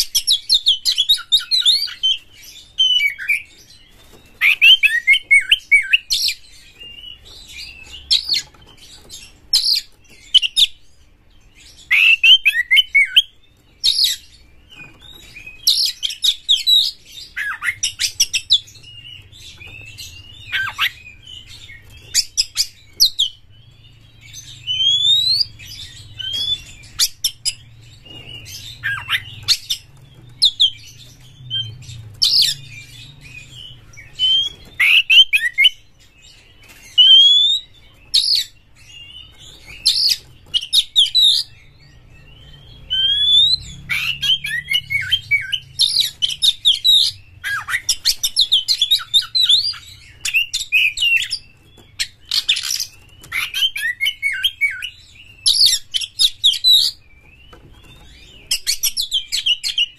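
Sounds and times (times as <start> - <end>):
bird singing with rising whistles: 0.0 - 59.9.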